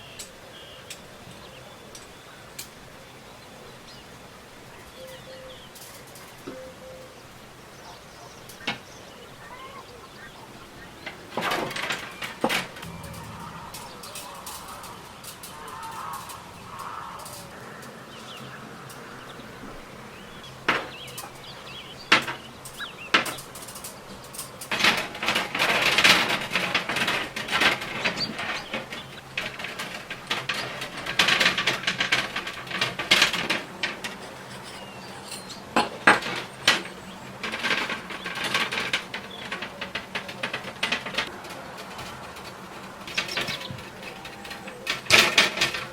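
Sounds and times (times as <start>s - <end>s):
metal parts and tools clattering: 8.4s - 45.9s.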